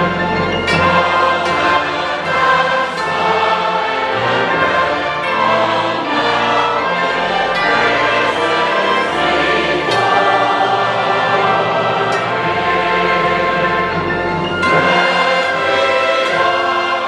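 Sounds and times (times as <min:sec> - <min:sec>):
choir and orchestra performing: 0:00.0 - 0:17.0.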